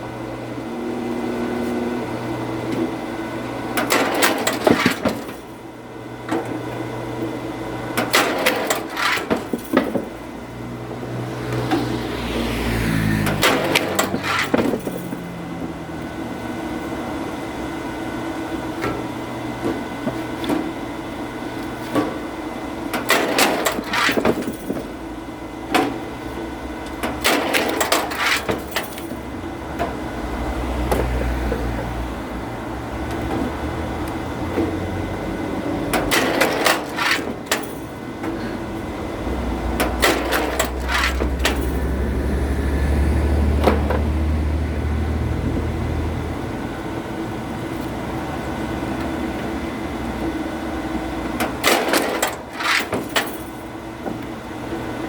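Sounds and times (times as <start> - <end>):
steady machine drone: 0.0 - 52.8.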